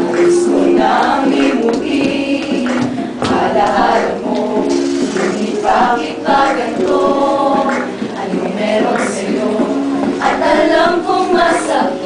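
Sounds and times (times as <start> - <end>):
group singing a pop song: 0.0 - 12.0.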